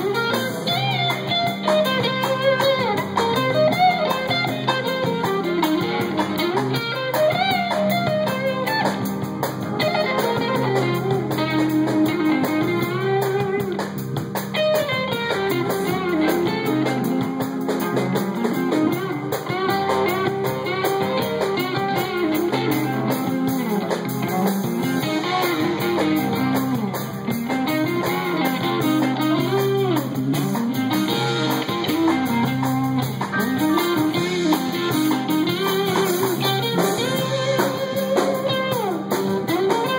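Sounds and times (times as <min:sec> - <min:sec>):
drum kit: 0:00.0 - 0:39.9
electric guitar lead lines: 0:00.0 - 0:39.9.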